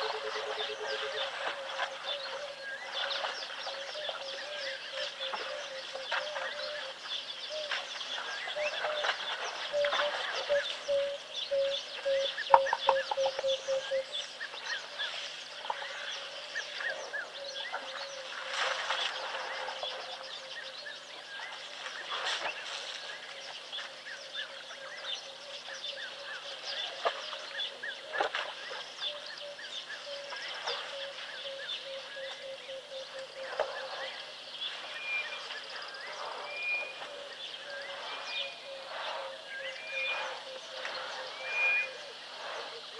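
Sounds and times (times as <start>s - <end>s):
birds chirping and calling: 0.0s - 42.9s.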